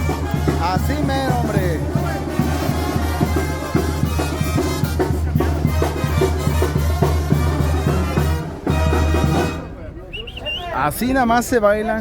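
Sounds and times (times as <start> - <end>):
drum beat: 0.0 - 9.6
wind band playing dance music: 0.0 - 10.8.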